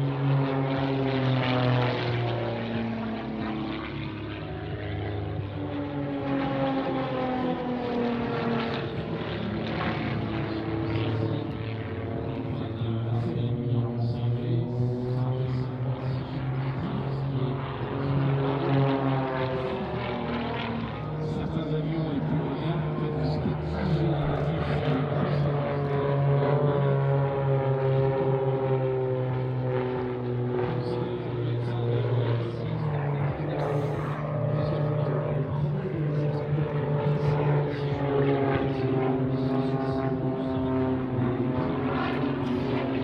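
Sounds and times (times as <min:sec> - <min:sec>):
propeller airplane flying past: 0:00.0 - 0:43.0.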